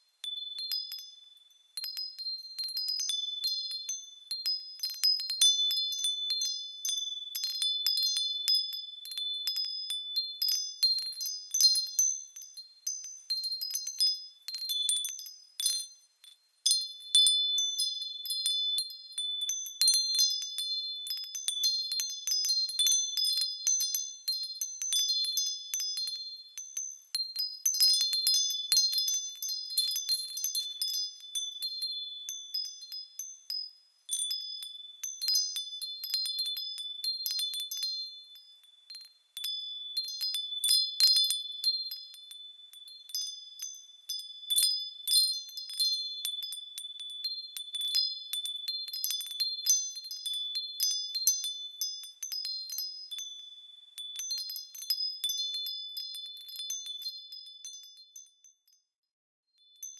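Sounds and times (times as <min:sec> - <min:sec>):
small bells chiming: 0:00.0 - 0:59.9.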